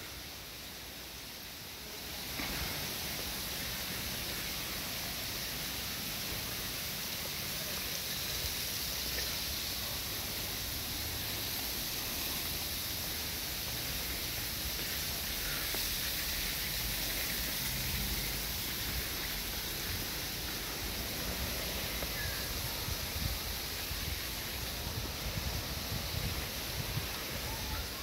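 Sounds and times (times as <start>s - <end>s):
even hiss: 0.0s - 28.0s.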